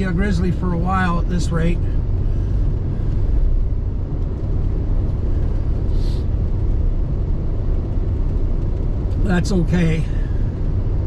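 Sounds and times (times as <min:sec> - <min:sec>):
engine and tyre rumble in cab: 0:00.0 - 0:11.0.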